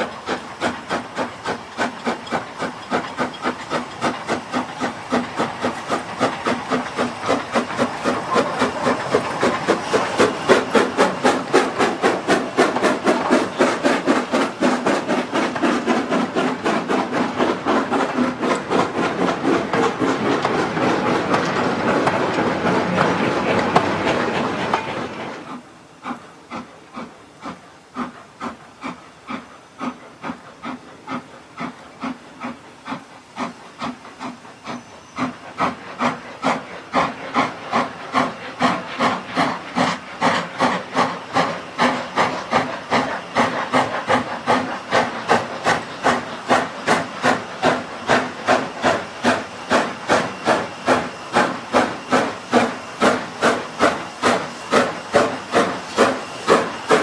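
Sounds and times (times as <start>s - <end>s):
steam locomotive exhaust barking: 0.0s - 57.0s.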